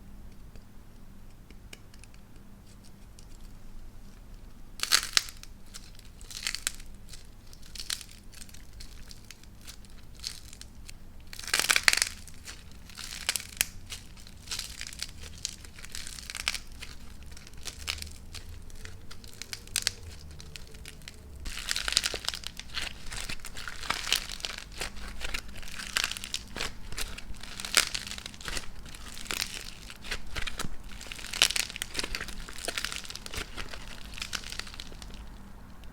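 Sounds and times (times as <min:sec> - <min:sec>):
dried clay cracking and crunching: 0:01.5 - 0:35.9.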